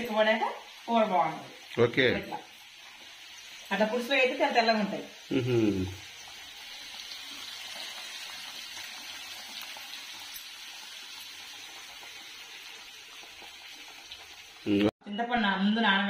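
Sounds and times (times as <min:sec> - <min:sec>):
curry sizzling on stove: 0:00.0 - 0:14.9.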